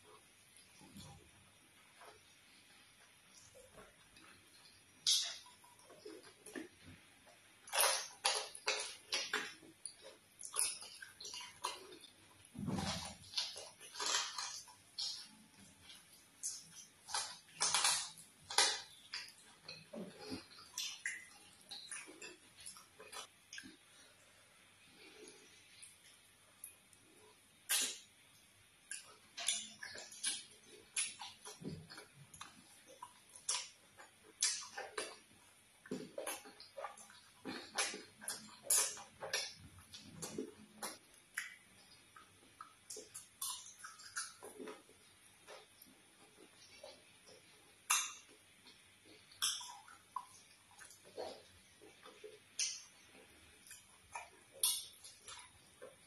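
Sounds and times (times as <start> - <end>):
wet chewing and lip-smacking: 3.0 - 24.1, 25.0 - 56.0.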